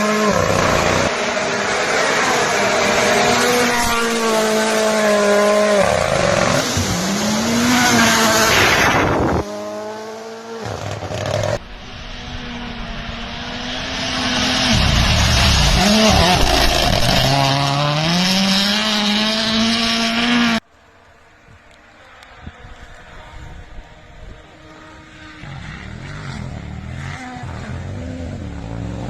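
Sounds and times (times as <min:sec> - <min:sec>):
rally car engines revving: 0:00.0 - 0:20.6, 0:22.8 - 0:29.0.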